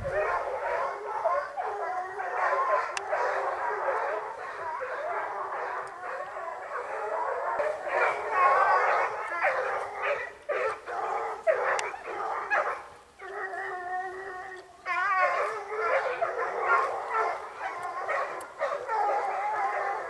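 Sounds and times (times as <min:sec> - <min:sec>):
dog long drawn-out howl: 0:00.0 - 0:20.0
hounds baying and howling: 0:00.0 - 0:20.0.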